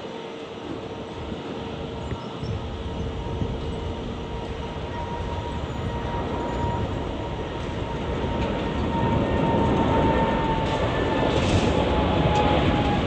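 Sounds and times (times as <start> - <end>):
jet engine roar: 0.0 - 13.0
thin jet whine: 0.1 - 13.0.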